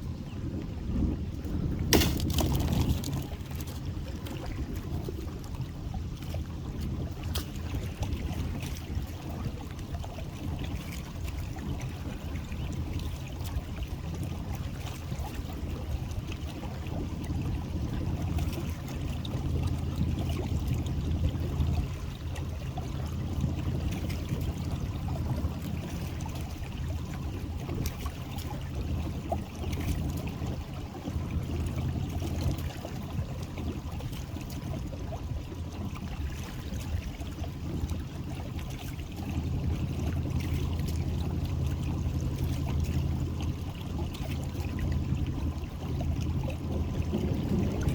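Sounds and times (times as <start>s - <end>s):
steady low rumble: 0.0s - 47.9s
water trickling and splashing: 0.0s - 47.9s.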